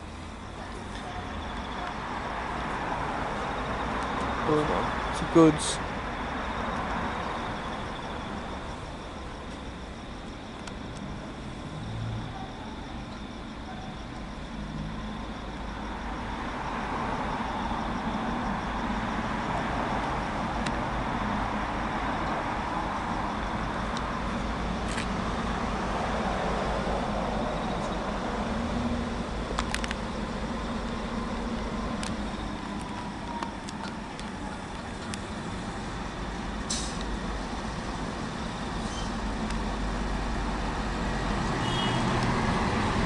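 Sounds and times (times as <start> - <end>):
diesel locomotive engines droning: 0.0 - 43.0.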